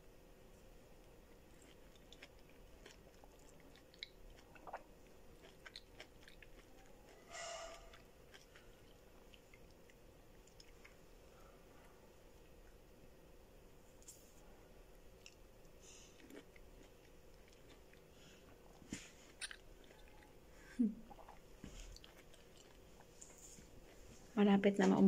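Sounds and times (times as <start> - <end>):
person chewing food: 1.4 - 12.8, 15.0 - 24.0.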